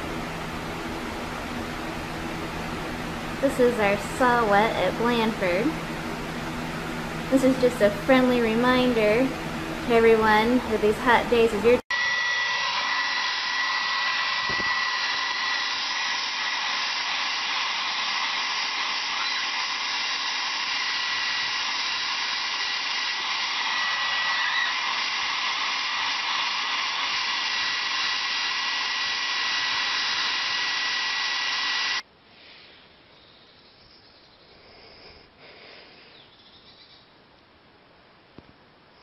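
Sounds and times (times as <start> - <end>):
hair dryer blowing: 0.0 - 32.1.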